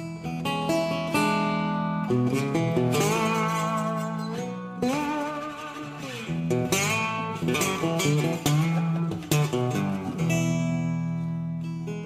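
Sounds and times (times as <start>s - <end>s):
plucked guitar melody: 0.0s - 12.0s.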